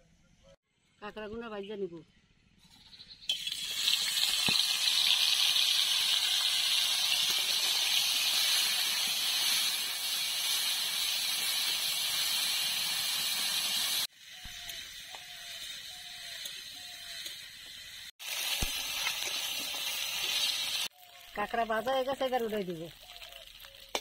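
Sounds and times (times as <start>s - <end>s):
crab frying in oil: 3.3s - 24.0s.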